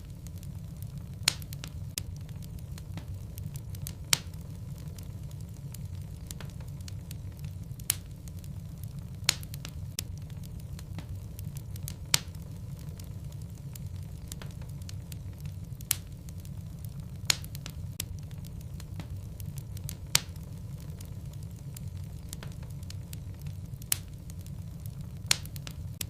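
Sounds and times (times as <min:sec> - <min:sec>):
logs burning in a fireplace: 0:00.0 - 0:26.0.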